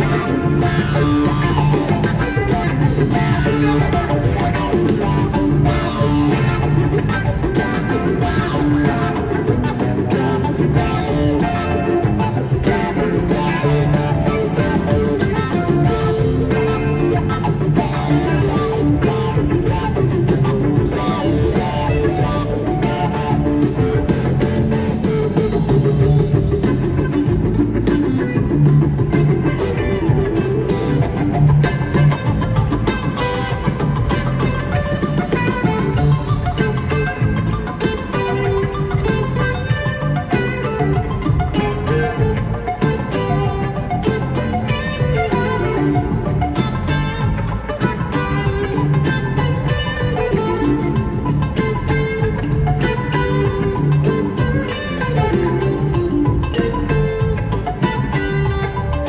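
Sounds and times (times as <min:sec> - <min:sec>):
electric guitar: 0:00.0 - 0:59.0
rock band playing live: 0:00.0 - 0:59.0.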